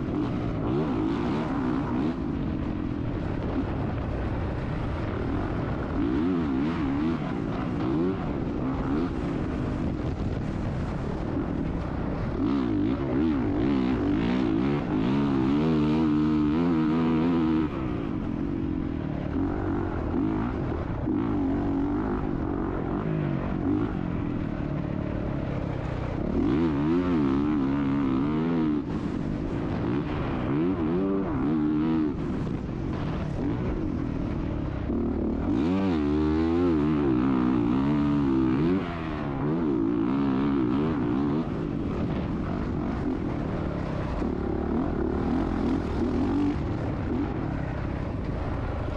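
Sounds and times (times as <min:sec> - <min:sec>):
motocross bike engine revving: 0:00.0 - 0:04.2, 0:04.8 - 0:10.1, 0:11.1 - 0:18.3, 0:25.4 - 0:48.9.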